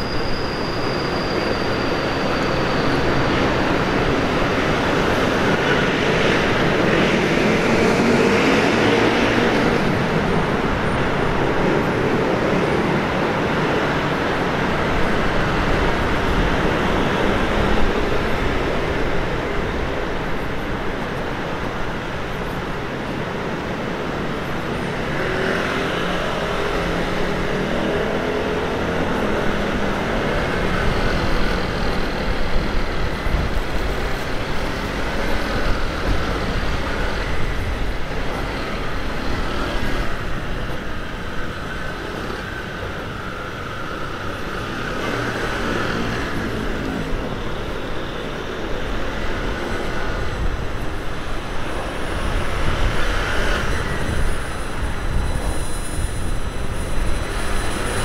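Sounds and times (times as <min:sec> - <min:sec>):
engine and tyre noise: 0:00.0 - 0:58.0.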